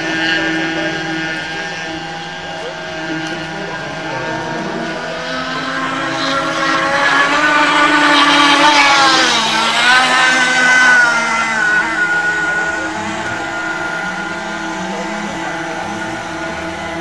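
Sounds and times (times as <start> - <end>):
model speedboat two-stroke engines: 0.0 - 17.0.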